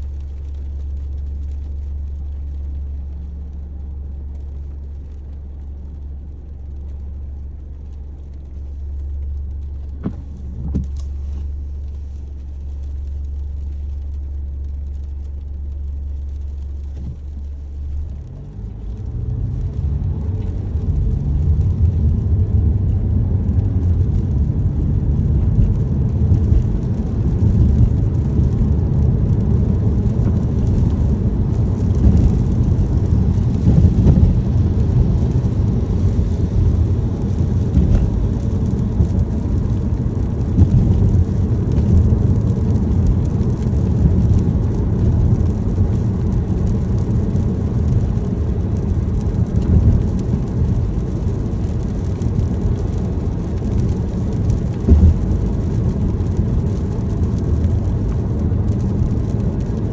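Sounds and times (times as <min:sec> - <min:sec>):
car road and engine rumble: 0:00.0 - 0:59.9
rain ticking on car: 0:00.0 - 0:59.9.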